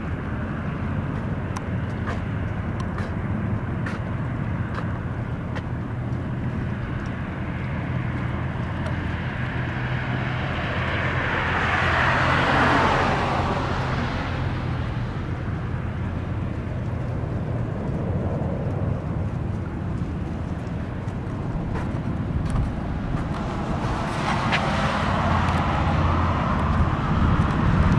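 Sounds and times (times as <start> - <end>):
jet airliner passing overhead: 0.0 - 27.9
steady low rumble: 0.0 - 27.9.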